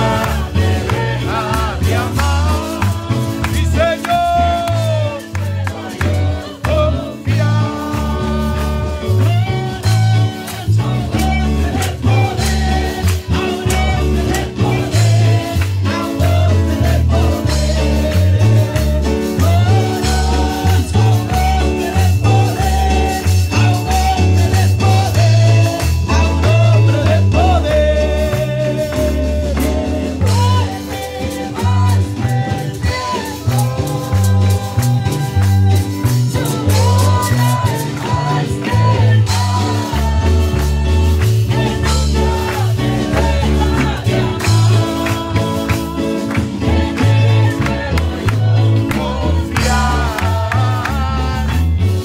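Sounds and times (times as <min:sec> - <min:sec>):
band playing: 0:00.0 - 0:52.0
congregation clapping: 0:00.0 - 0:52.0
pulsing bass line: 0:00.0 - 0:52.0
woman singing into a microphone: 0:05.2 - 0:52.0.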